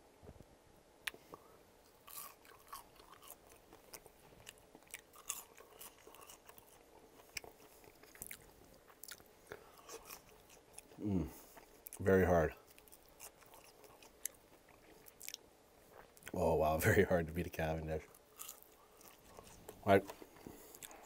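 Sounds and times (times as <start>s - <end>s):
person chewing crunchy fries: 1.0s - 16.4s, 18.0s - 21.0s.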